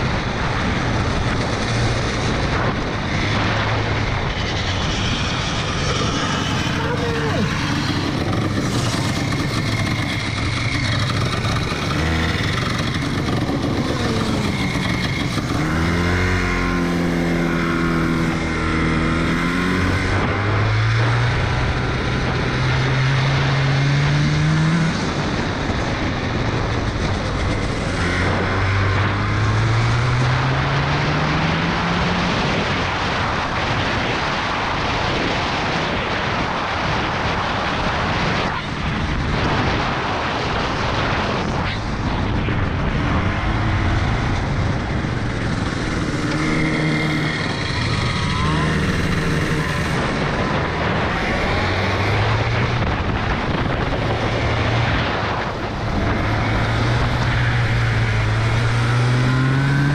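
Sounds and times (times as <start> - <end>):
kart engine accelerating: 0.0 - 33.9, 37.4 - 59.9
rushing wind noise: 0.0 - 59.9.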